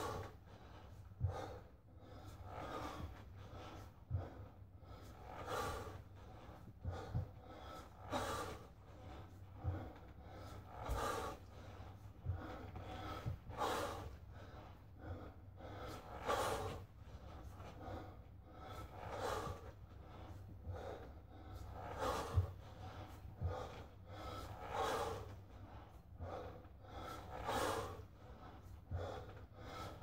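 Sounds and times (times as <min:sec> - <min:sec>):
man breathing hard: 0:00.0 - 0:30.0.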